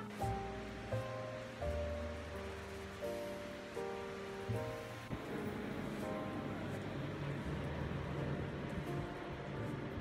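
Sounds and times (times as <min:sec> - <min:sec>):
soft hiss: 0:00.0 - 0:10.0.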